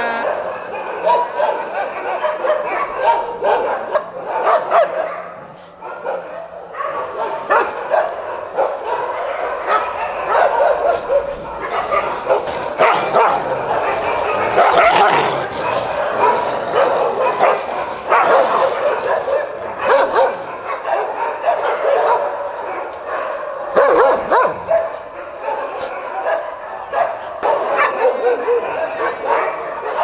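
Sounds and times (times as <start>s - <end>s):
many dogs barking: 0.0s - 30.0s.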